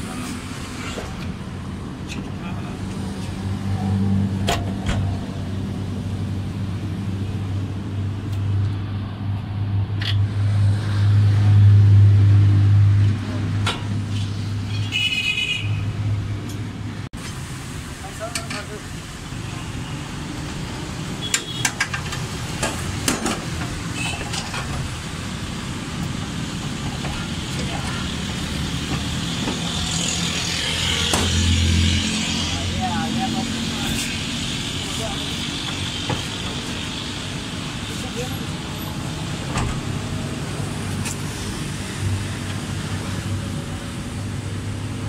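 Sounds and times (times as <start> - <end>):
road traffic noise: 0.0 - 45.0.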